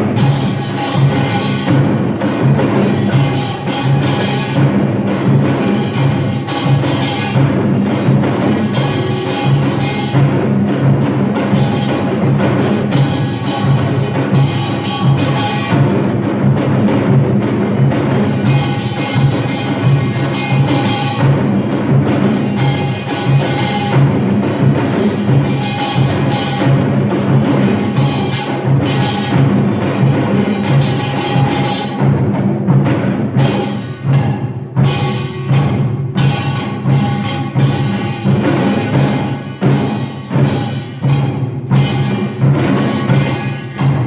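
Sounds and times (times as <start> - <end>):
drums beating: 0.0 - 44.0
gongs clanging: 0.0 - 44.0.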